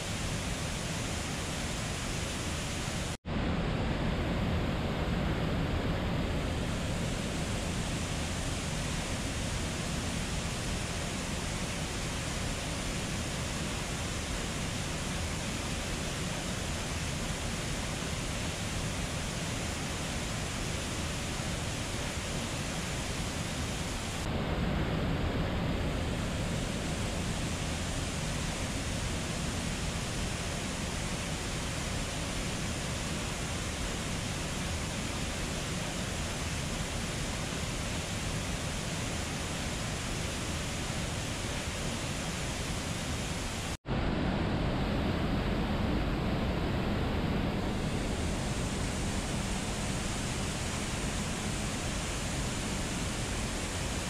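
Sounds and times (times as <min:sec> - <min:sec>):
waterfall and river rushing: 0:00.0 - 0:54.0.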